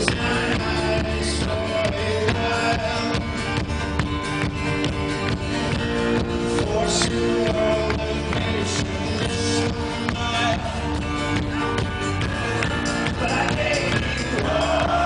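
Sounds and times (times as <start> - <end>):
drums: 0.0 - 15.0
strummed acoustic guitars: 0.0 - 15.0.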